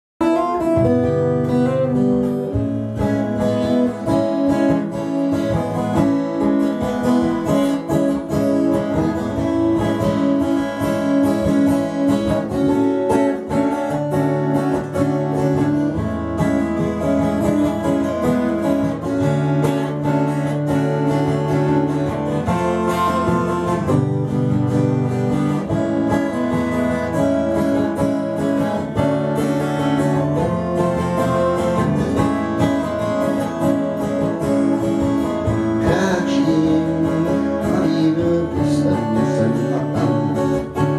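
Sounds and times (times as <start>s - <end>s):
acoustic guitar playing: 0.2s - 40.9s.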